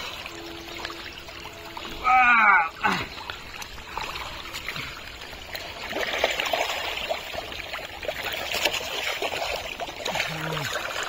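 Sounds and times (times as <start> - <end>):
muddy water sloshing: 0.0 - 11.0
small wet splashes: 0.0 - 11.0.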